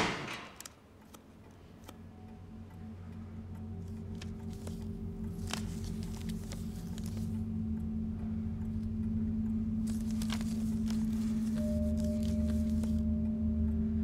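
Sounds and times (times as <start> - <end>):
horror film score drone: 0.0 - 14.0
film negative crackles and clicks: 0.3 - 7.9, 8.6 - 13.1.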